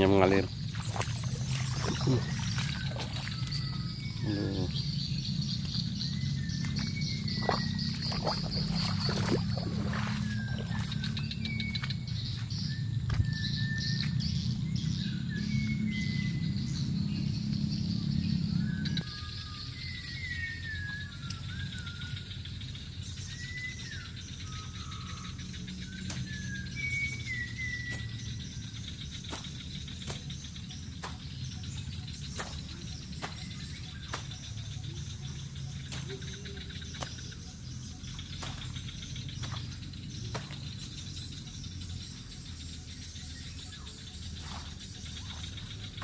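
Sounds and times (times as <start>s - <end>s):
bird whistling gliding calls: 0.0s - 46.0s
insects buzzing: 0.0s - 46.0s.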